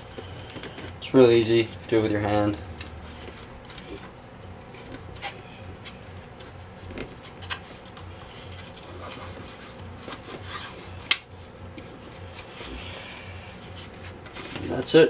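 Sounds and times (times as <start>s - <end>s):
hands rubbing vinyl film: 0.0s - 15.0s.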